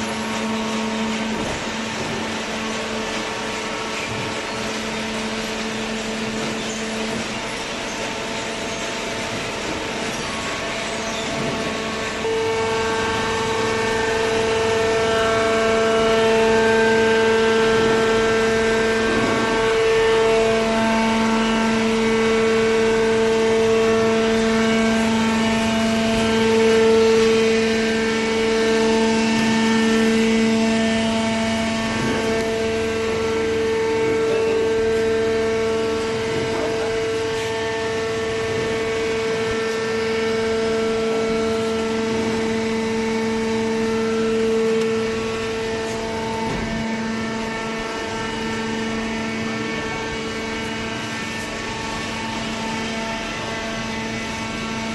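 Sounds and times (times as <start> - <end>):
hydraulic pump motor hum-whine: 0.0 - 54.9.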